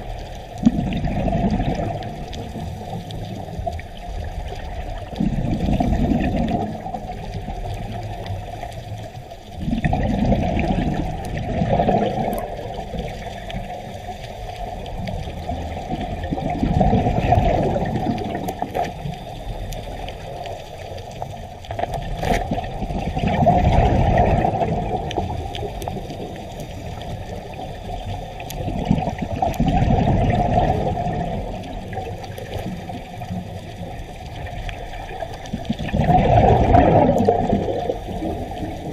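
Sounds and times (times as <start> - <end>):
underwater exhaled bubbles: 0.0 - 38.9
underwater hiss: 0.0 - 38.9.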